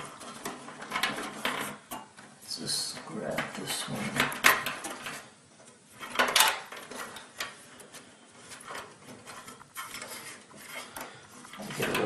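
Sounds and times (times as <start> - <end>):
cables rustling: 0.0 - 12.0.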